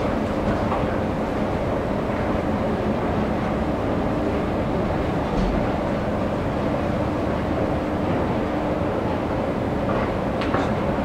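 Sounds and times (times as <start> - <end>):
escalator rumble and hum: 0.0 - 11.0.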